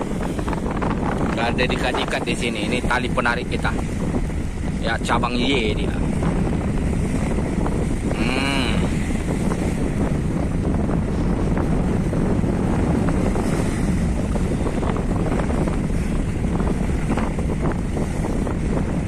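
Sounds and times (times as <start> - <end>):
rough sea rushing: 0.0 - 19.0
wind buffeting microphone: 0.0 - 19.0.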